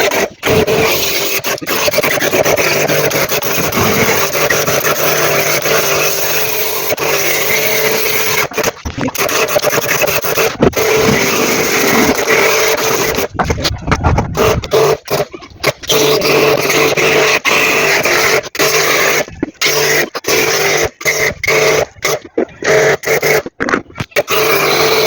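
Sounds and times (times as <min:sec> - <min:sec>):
pump motor humming: 0:00.0 - 0:25.0.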